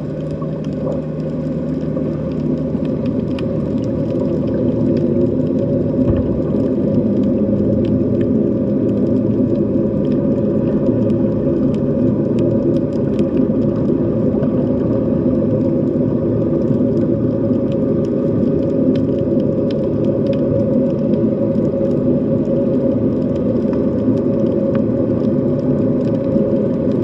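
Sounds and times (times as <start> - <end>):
faint underwater clicks: 0.0 - 27.0
underwater low drone: 0.0 - 27.0.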